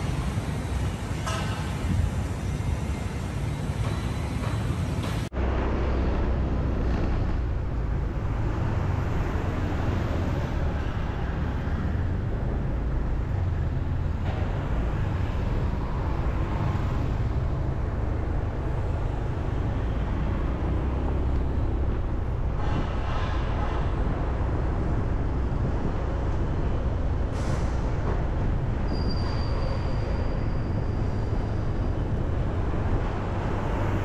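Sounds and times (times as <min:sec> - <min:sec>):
vehicle road and wind noise: 0:00.0 - 0:34.0.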